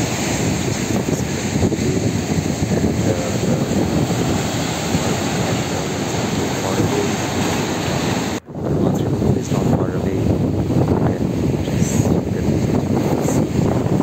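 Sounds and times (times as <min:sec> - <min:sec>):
sea waves breaking: 0:00.0 - 0:14.0
wind rumbling on microphone: 0:00.0 - 0:14.0.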